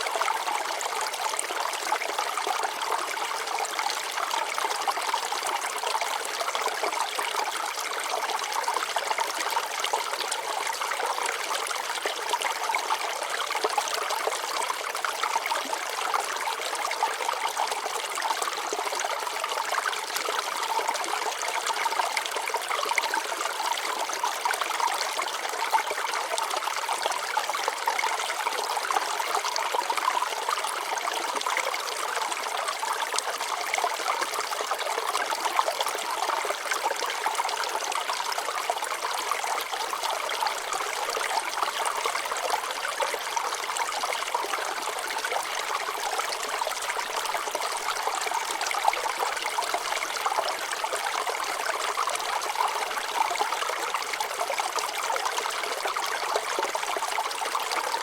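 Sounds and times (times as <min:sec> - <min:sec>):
stream water trickling over rocks: 0:00.0 - 0:58.0.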